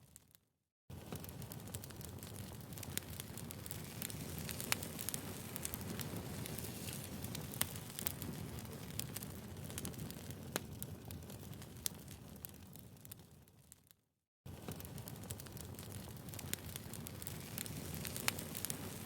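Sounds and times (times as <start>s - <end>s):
pops and snaps of fire: 0.0s - 19.0s
wood fire crackling: 0.1s - 19.0s.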